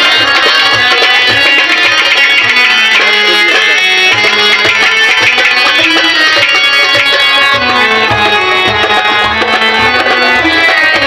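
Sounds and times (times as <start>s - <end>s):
hand drum rhythm: 0.0s - 11.0s
harmonium playing a melody: 0.0s - 11.0s.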